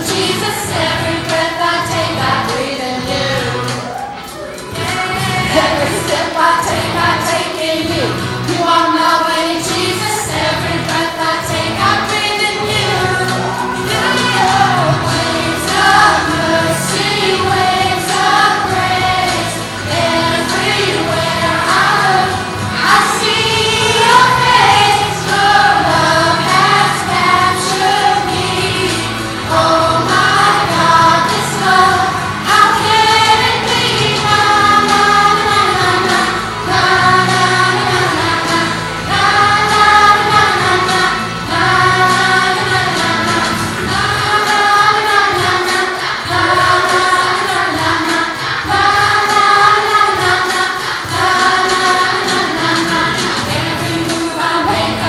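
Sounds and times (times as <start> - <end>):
group of voices singing: 0.0 - 55.0
instrumental accompaniment: 0.0 - 55.0.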